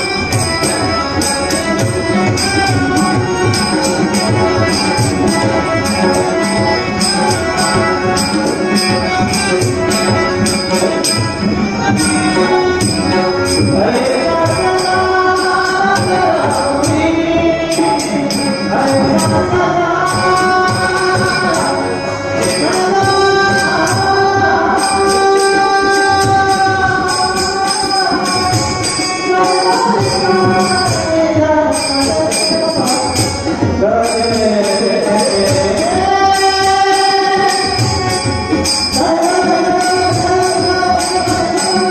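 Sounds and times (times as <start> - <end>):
harmonium melody: 0.0 - 41.9.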